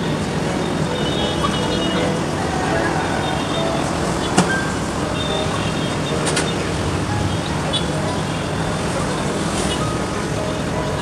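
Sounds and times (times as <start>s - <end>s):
busy street traffic: 0.0s - 11.0s.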